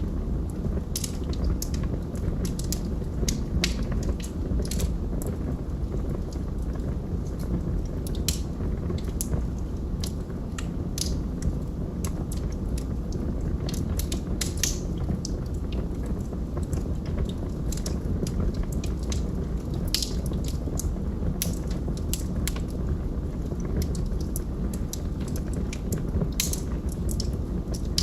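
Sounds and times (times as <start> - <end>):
burning wood crackling and popping: 0.0 - 28.0
low rush of flame: 0.0 - 28.0.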